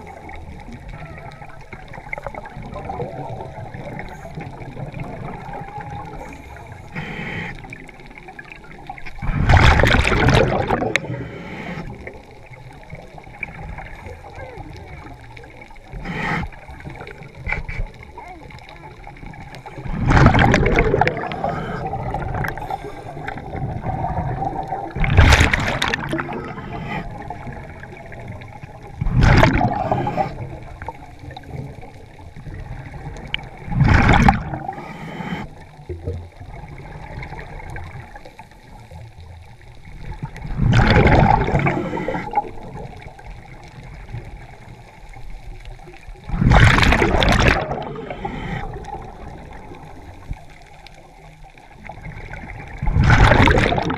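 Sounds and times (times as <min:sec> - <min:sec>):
quiet gurgling wash: 0:00.0 - 0:53.9
rushes of bubbles: 0:00.0 - 0:53.9.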